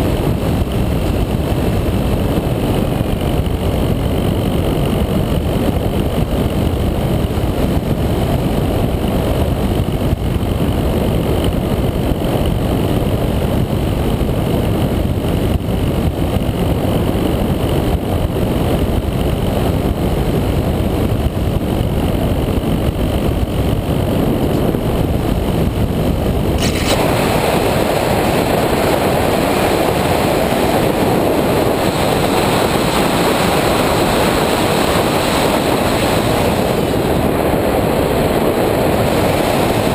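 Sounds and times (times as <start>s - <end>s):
wind rush: 0.0s - 39.9s.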